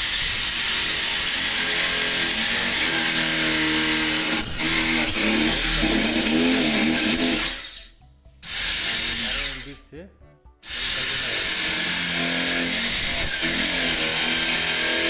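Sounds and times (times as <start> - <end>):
electric drill boring into wood: 0.0 - 9.8, 10.6 - 15.0.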